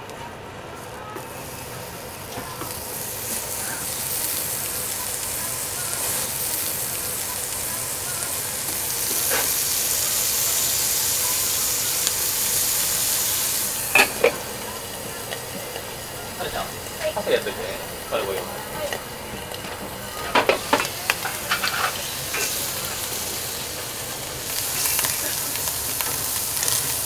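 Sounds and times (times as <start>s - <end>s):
bacon sizzling in a frying pan: 1.3s - 27.0s.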